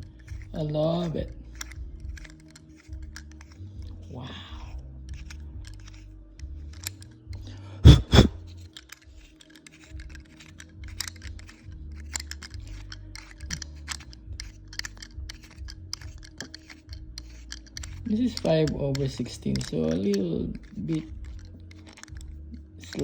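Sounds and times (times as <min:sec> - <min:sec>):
metal bolt clicking and scraping: 0:00.0 - 0:07.5, 0:08.4 - 0:23.0.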